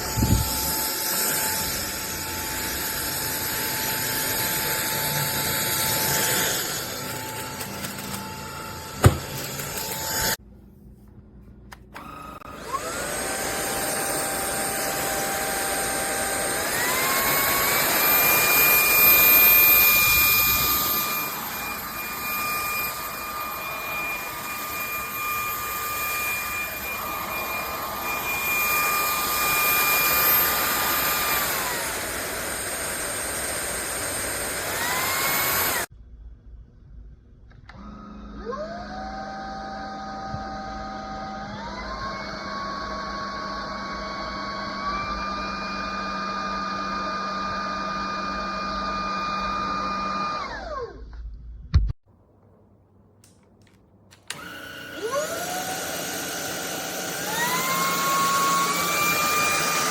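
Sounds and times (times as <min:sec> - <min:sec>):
vacuum motor whining: 0:00.0 - 0:10.4, 0:11.9 - 0:35.9, 0:37.7 - 0:50.9, 0:54.1 - 0:59.9.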